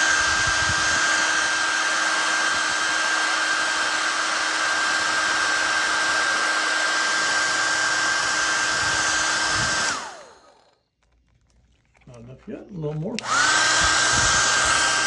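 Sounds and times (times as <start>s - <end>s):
hair dryer running: 0.0s - 10.8s, 13.2s - 15.0s.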